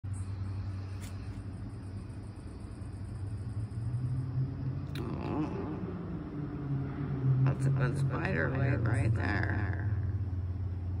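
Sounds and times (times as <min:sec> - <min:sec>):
low mechanical hum: 0:00.1 - 0:11.0.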